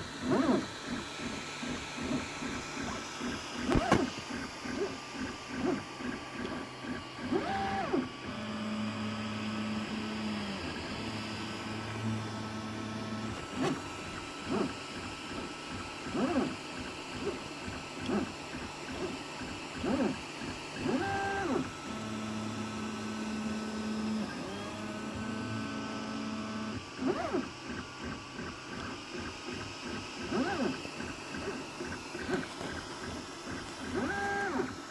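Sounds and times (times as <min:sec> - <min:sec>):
printer stepper motors whining: 0:00.0 - 0:34.9.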